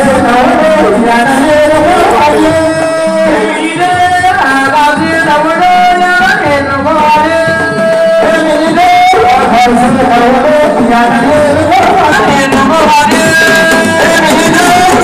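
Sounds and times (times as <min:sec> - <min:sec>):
drums: 0:00.0 - 0:15.0
person singing long held notes: 0:00.0 - 0:15.0.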